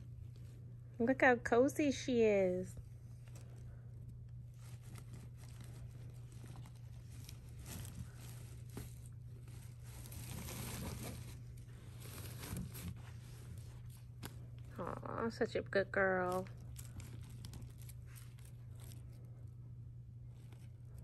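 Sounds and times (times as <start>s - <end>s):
steady low hum: 0.0s - 21.0s
fabric rustling: 2.6s - 14.8s, 16.0s - 21.0s.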